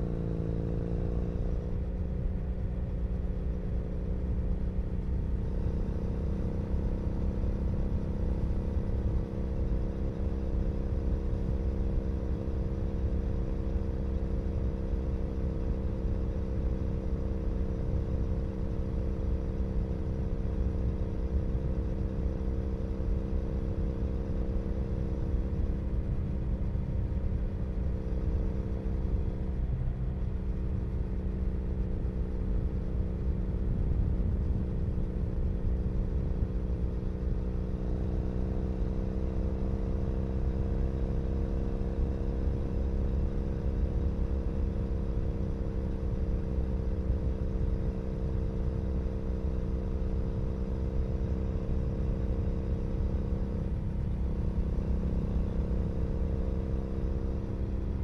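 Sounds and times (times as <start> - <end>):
motorcycle exhaust at cruising speed: 0.0 - 58.0.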